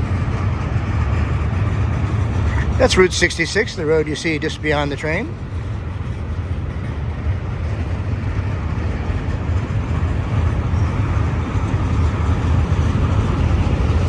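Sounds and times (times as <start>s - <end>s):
freight cars rolling on rails: 0.0s - 14.0s.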